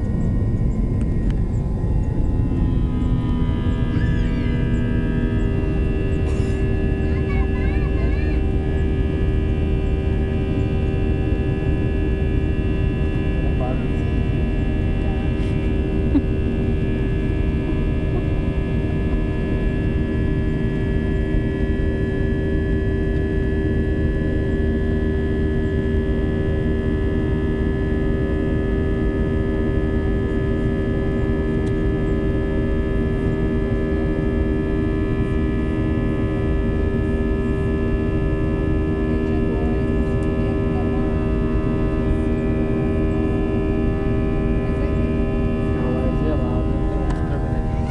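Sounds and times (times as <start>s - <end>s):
jet engines droning in cabin: 0.0s - 47.9s.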